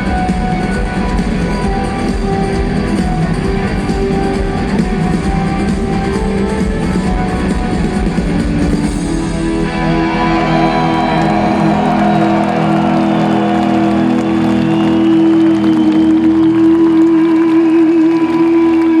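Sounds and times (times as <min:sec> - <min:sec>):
rock drums: 0:00.0 - 0:17.0.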